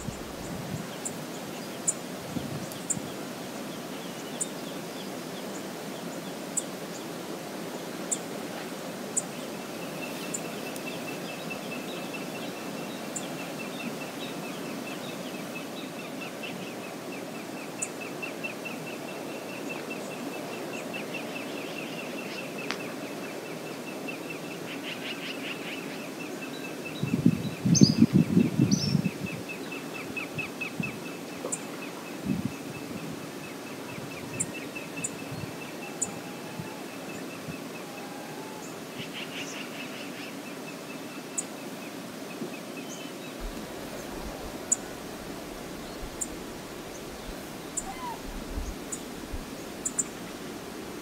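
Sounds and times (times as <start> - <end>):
river water rushing: 0.0 - 26.9, 34.6 - 51.0.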